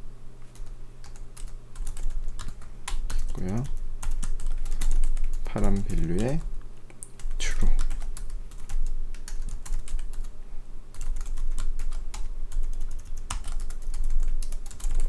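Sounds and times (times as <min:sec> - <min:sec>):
low steady hum: 0:00.0 - 0:15.0
keyboard typing: 0:00.6 - 0:06.5, 0:07.1 - 0:10.3, 0:10.9 - 0:15.0.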